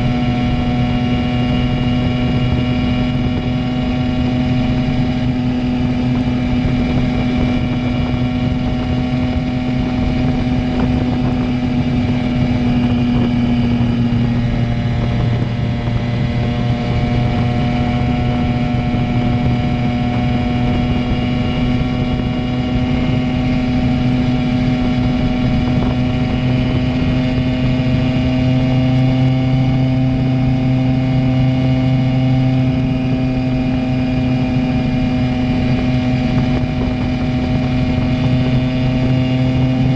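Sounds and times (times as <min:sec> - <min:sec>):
moped engine cruising: 0:00.0 - 0:39.9.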